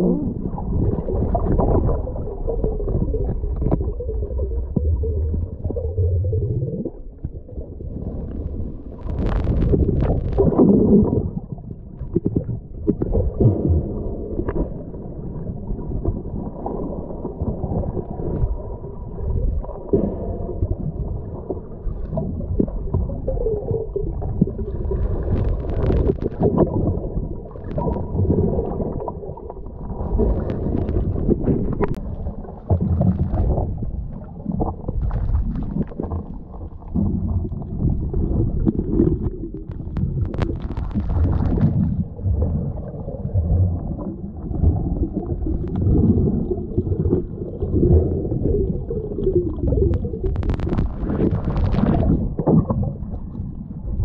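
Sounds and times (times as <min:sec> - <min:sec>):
gurgling water: 0:00.0 - 0:54.0
muffled underwater rumble: 0:00.0 - 0:54.0.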